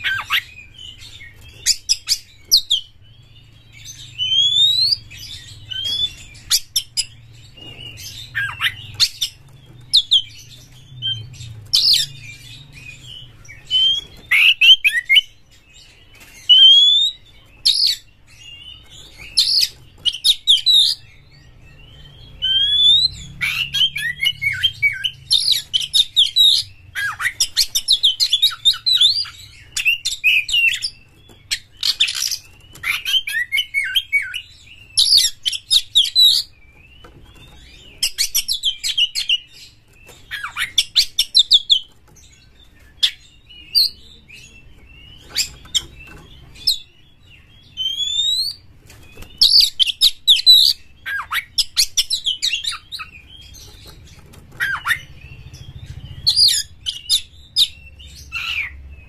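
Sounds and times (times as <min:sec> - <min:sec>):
bird singing with whistles: 0:00.0 - 0:59.0.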